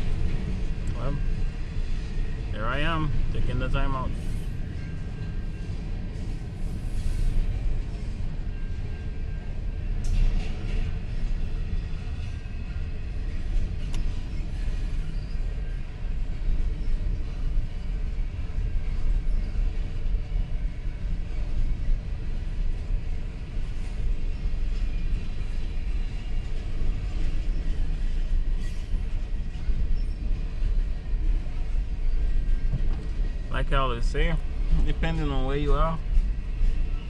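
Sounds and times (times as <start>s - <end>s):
freight train wheels rumbling on rail: 0.0s - 37.0s.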